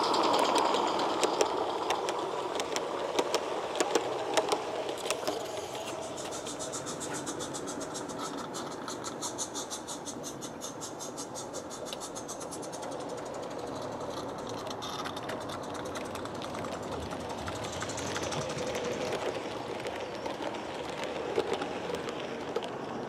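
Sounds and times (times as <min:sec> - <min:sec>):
model train wheels clicking on rails: 0:00.0 - 0:23.0
steam locomotive chuffing: 0:00.0 - 0:23.0.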